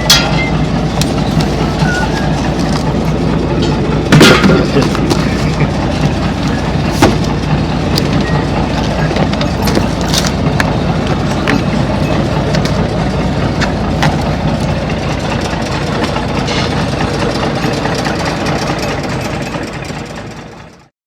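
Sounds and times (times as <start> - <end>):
boat engine rumbling: 0.0 - 20.9.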